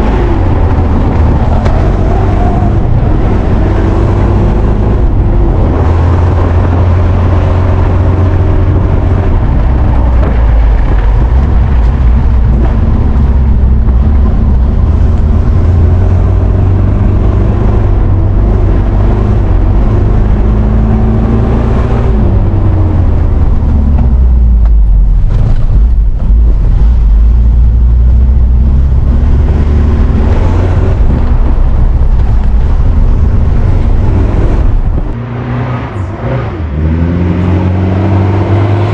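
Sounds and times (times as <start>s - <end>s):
car engine revving under load: 0.0s - 38.9s.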